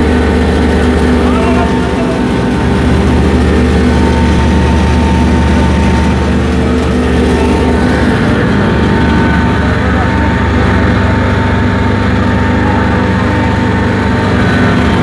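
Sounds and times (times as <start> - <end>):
flour mill machine drone: 0.0 - 15.0.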